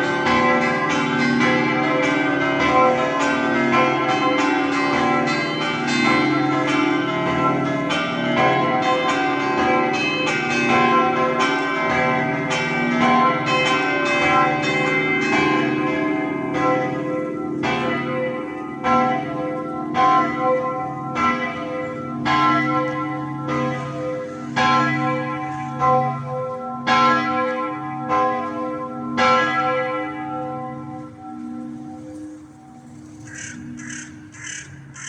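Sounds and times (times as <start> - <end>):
church bells ringing: 0.0 - 35.0.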